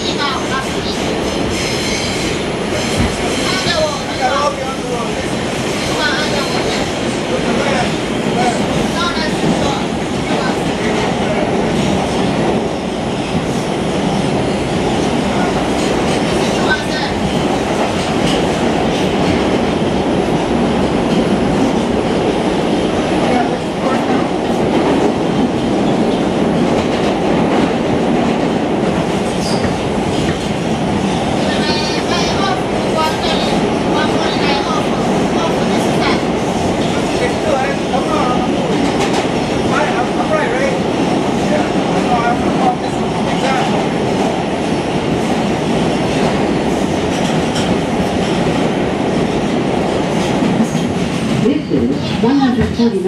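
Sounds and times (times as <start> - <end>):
subway car wheels on rails: 0.0 - 53.0.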